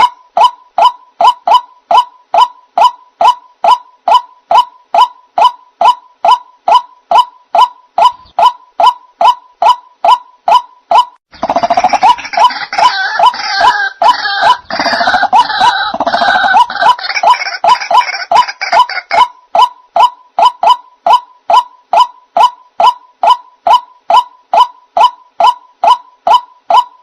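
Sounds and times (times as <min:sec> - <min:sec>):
bird harsh croaking chatter: 0:00.0 - 0:26.8.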